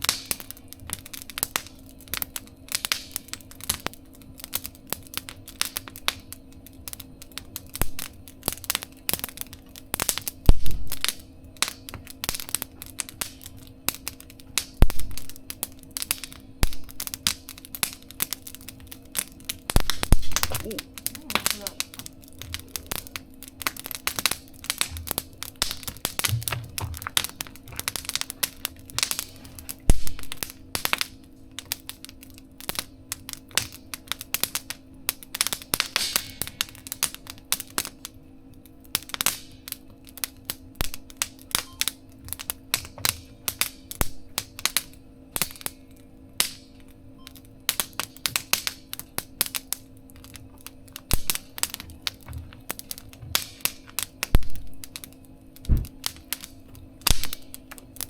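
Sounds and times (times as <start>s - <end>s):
faint steady hum: 0.0s - 58.0s
wood fire crackling and popping: 0.0s - 58.0s.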